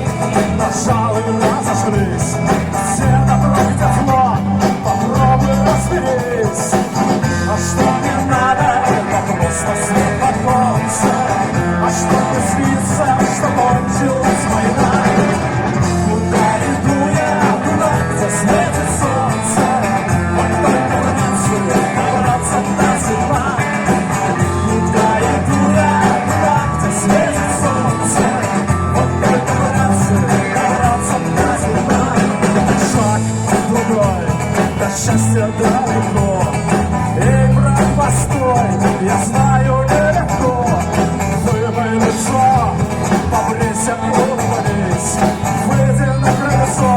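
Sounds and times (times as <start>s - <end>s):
live rock and roll band: 0.0s - 46.9s
steady drum beat: 0.0s - 46.9s.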